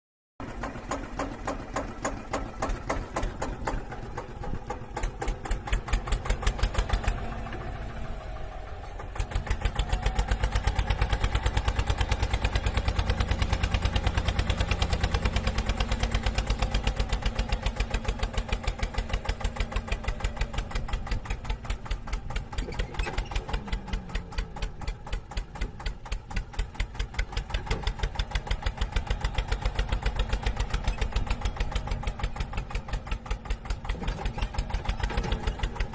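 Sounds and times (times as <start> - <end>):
engine chugging: 0.4 - 35.9.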